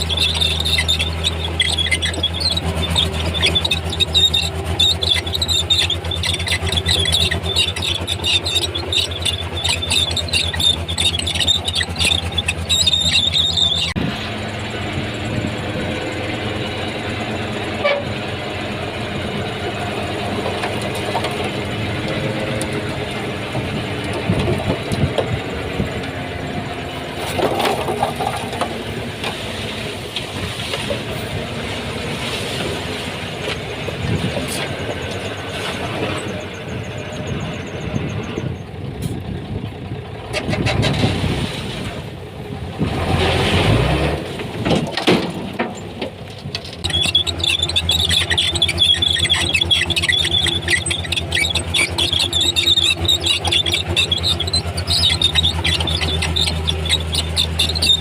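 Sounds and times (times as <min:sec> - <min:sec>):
steel tracks squealing: 0:00.0 - 0:38.8, 0:46.7 - 0:58.0
bulldozer diesel engine throbbing: 0:00.0 - 0:58.0.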